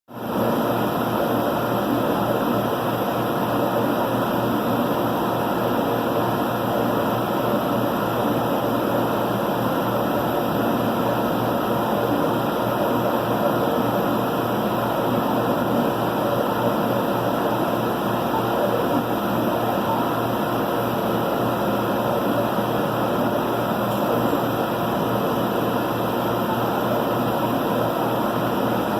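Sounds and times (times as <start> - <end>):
laser machine running: 0.2 - 28.9.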